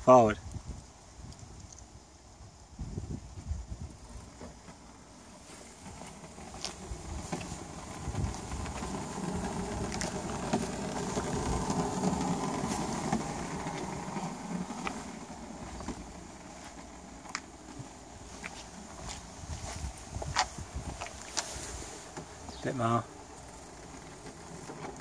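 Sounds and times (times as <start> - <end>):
mobility scooter rolling: 3.7 - 25.0
wheel scraping: 3.8 - 25.0.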